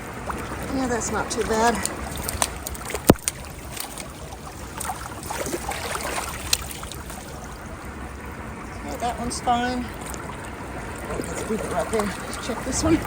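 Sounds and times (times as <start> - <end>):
rainwater gurgling into culvert: 0.0 - 13.0.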